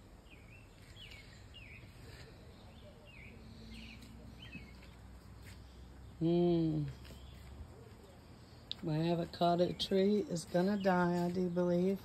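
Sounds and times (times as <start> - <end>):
faint outdoor hum: 0.0 - 12.0
songbird chirping: 0.0 - 12.0.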